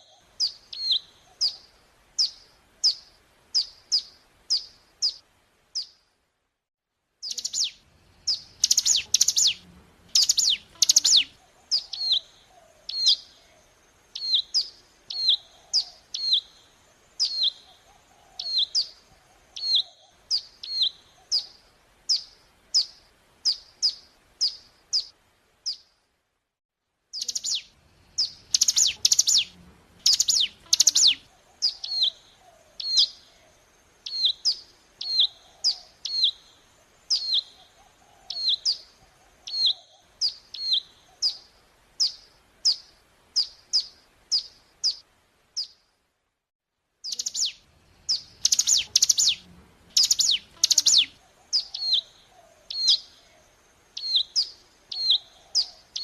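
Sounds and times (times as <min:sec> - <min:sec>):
bird song with harsh notes and chirps: 0:00.0 - 0:06.1, 0:07.2 - 0:26.0, 0:27.1 - 0:45.9, 0:47.0 - 0:56.0.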